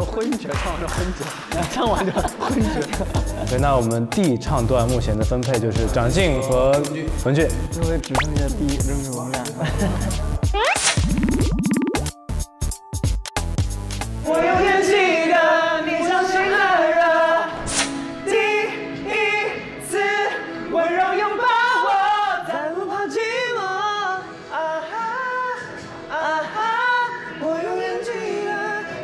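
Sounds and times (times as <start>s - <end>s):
pop backing music: 0.0s - 29.0s.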